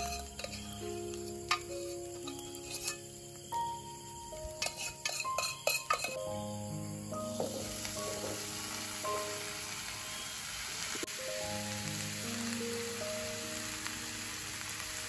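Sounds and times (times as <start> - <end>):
food sizzling in hot oil: 0.0 - 15.0
soft background music: 0.0 - 15.0.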